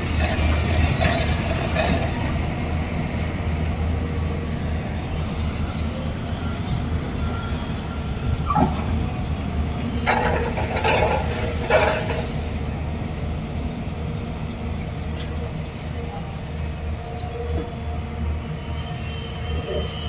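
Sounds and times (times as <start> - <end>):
excavator diesel engines: 0.0 - 20.0.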